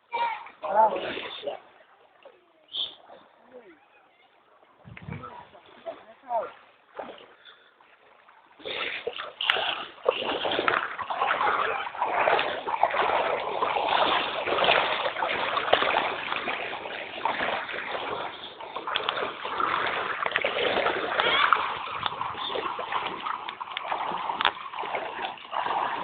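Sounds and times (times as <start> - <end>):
floodwater splashing and sloshing: 0.0 - 26.0.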